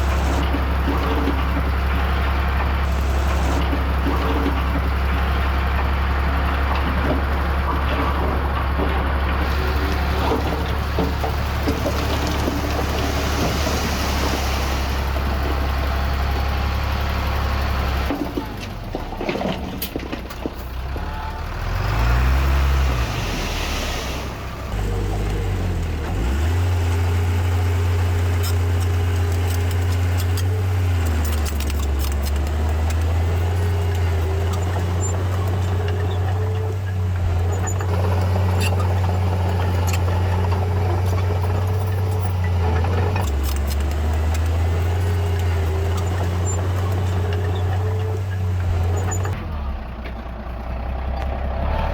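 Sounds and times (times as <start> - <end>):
diesel engine of heavy machinery: 0.0 - 51.9.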